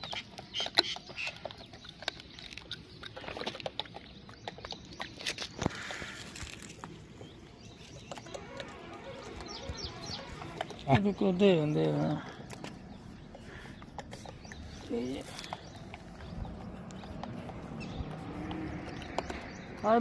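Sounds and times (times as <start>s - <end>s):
monkeys crunching dry kernels: 0.0s - 20.0s.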